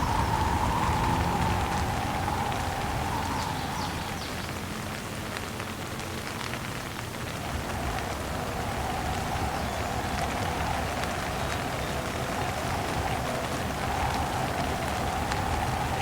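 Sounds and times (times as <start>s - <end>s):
wind howling: 0.0s - 5.4s, 7.0s - 16.0s
heavy rain falling: 0.0s - 16.0s.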